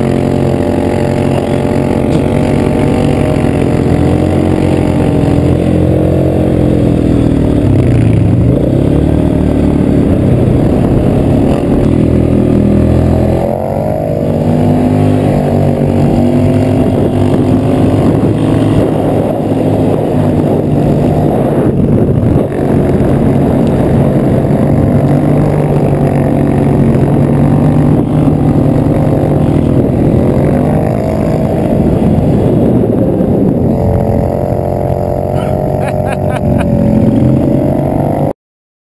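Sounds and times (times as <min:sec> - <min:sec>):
go-kart engine revving: 0:00.0 - 0:38.4.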